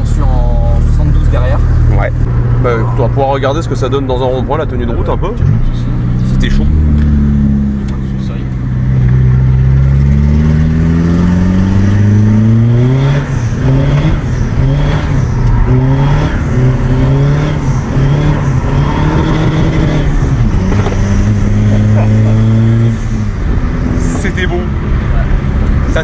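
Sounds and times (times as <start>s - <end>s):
diesel car engine under load: 0.0s - 26.0s.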